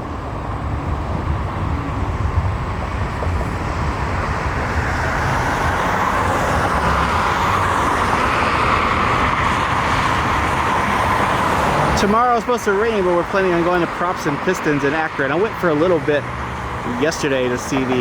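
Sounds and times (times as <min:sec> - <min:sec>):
jet engines roaring on takeoff: 0:00.0 - 0:18.0.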